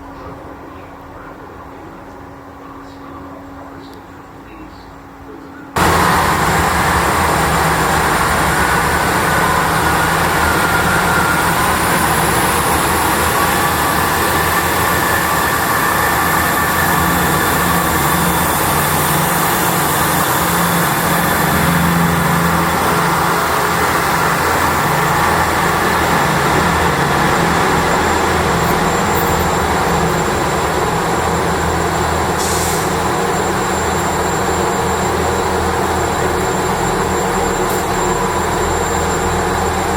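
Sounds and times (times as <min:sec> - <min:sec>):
high whines: 0:05.8 - 0:39.9
train engine humming: 0:05.8 - 0:39.9.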